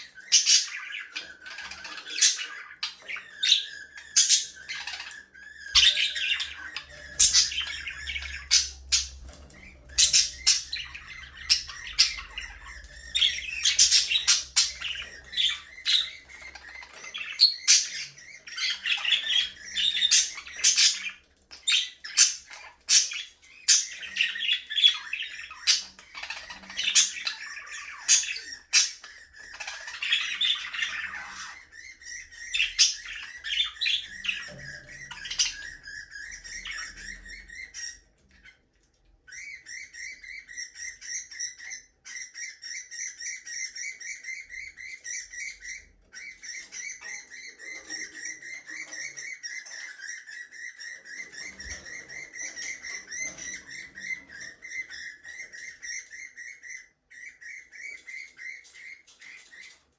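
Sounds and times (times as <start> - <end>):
budgerigars chirping and squawking: 0.0 - 59.9.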